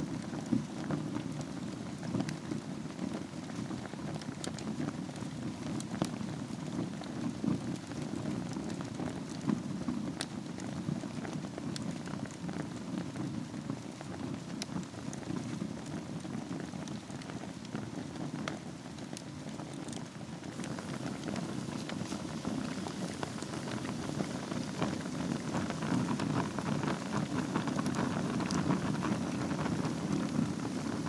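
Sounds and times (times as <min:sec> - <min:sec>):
low rush of flame: 0:00.0 - 0:31.0
wood fire crackling and popping: 0:00.0 - 0:31.0.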